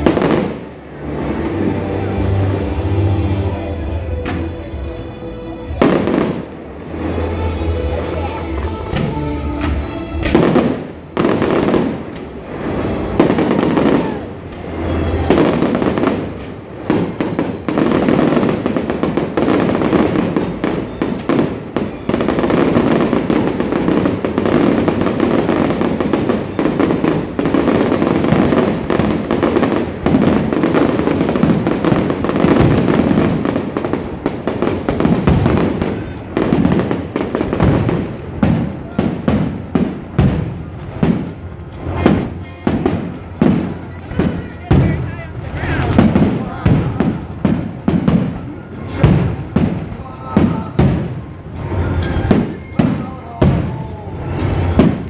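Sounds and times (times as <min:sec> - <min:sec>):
fireworks booming: 0:00.0 - 0:55.0
fireworks crackling: 0:00.0 - 0:55.0.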